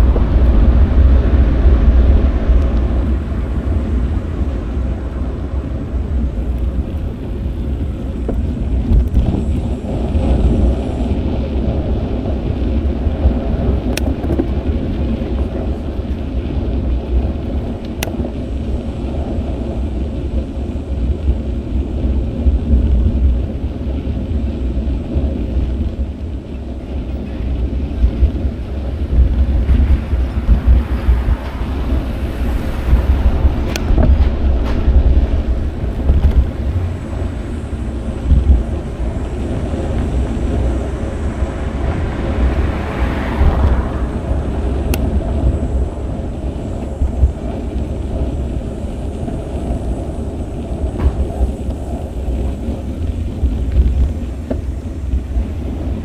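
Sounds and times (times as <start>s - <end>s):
street traffic passing: 0.0s - 56.0s
wind noise on microphone: 0.0s - 56.0s.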